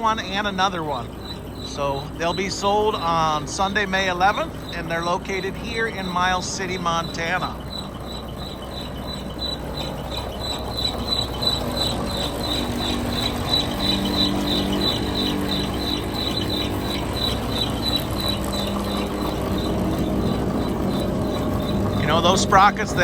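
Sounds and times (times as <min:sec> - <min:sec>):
rhythmic high-pitched squeak: 0:00.0 - 0:23.0
truck engine hum: 0:00.0 - 0:23.0.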